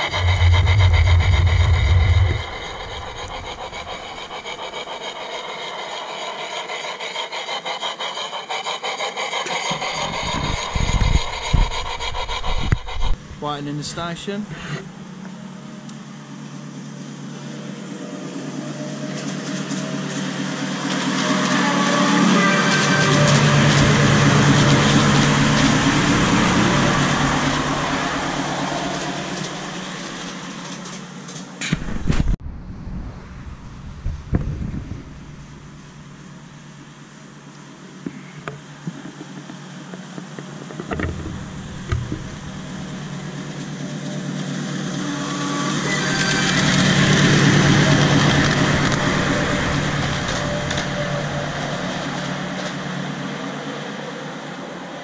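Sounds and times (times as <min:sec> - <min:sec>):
miniature train passing: 0:00.0 - 0:31.7, 0:33.4 - 0:55.0.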